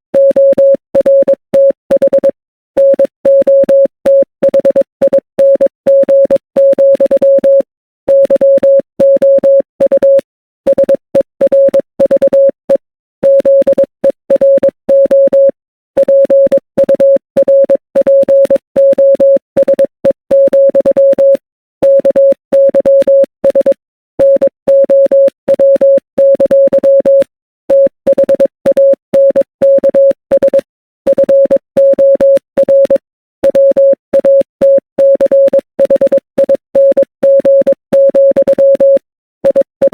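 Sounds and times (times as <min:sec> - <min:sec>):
morse code beeps: 0:00.2 - 0:39.9.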